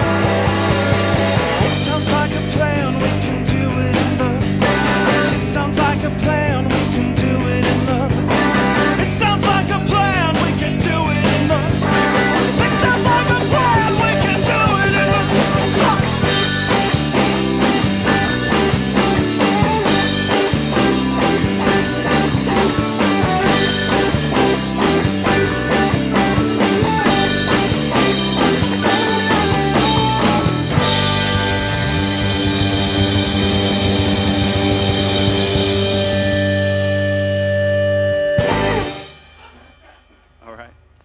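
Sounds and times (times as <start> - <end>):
bass guitar: 0.0 - 41.0
drums: 0.0 - 41.0.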